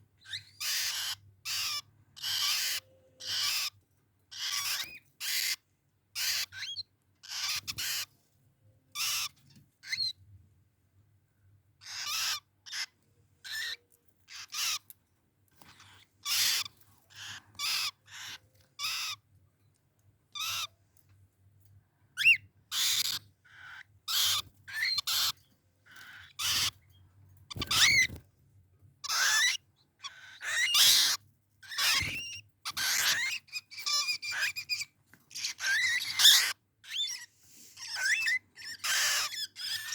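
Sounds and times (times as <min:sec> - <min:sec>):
caged birds calling: 0:00.2 - 0:08.2, 0:08.9 - 0:10.3, 0:11.8 - 0:19.3, 0:20.3 - 0:20.9, 0:22.1 - 0:28.2, 0:28.9 - 0:39.9.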